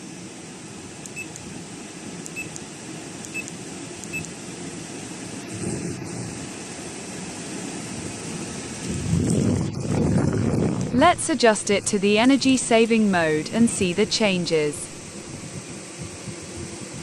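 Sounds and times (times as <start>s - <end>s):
air conditioner fan humming: 0.0s - 17.0s.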